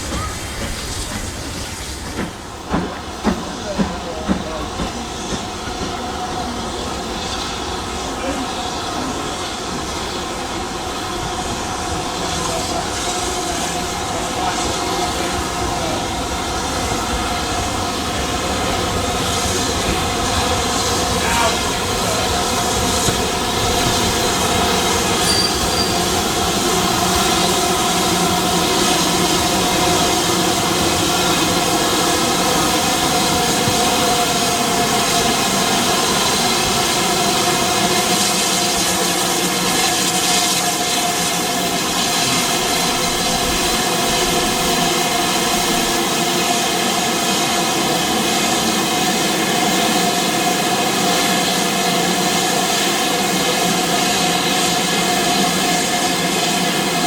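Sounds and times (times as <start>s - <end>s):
train running along track: 0.0s - 57.0s.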